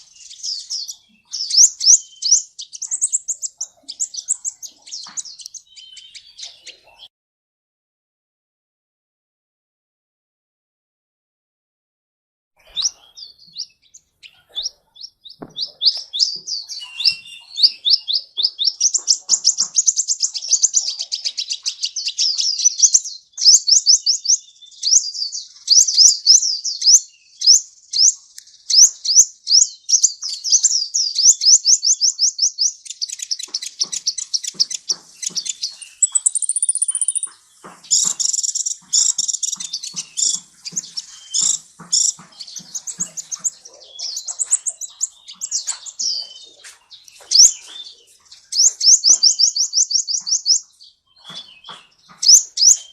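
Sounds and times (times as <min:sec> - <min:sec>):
sunbird song with fast trills: 0:00.0 - 0:07.1, 0:12.6 - 0:52.9.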